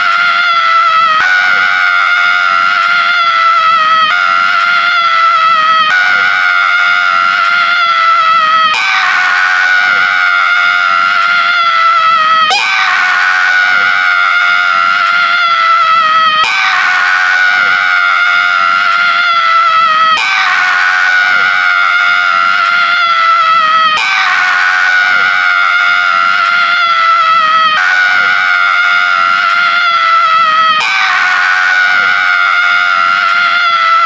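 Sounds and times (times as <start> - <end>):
man screaming high-pitched: 0.0 - 34.0.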